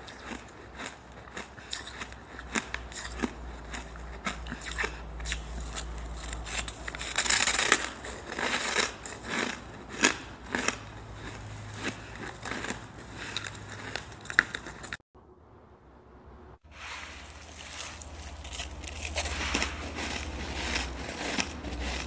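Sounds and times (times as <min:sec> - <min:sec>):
ice being chewed: 0:00.0 - 0:15.0, 0:16.9 - 0:22.0.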